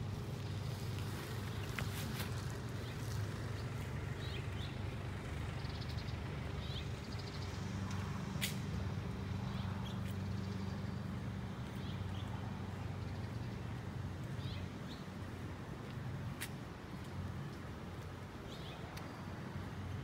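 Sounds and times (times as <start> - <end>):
low traffic hum: 0.0 - 20.0.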